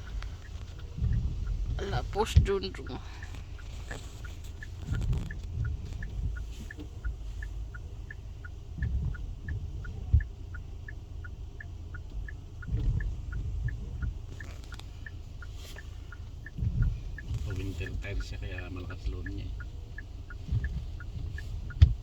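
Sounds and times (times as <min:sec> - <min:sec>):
low rumble of car: 0:00.0 - 0:22.0.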